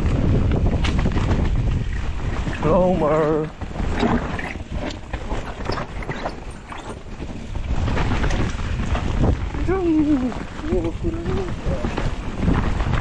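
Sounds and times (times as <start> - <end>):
bike rattling over ground: 0.0 - 13.0
wind on microphone: 0.0 - 13.0.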